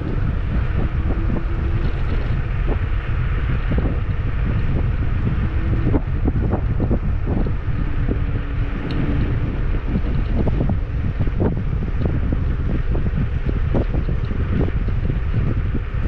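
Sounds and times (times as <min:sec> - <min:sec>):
constant low rumble: 0:00.0 - 0:16.0
wind buffeting microphone: 0:00.0 - 0:16.0.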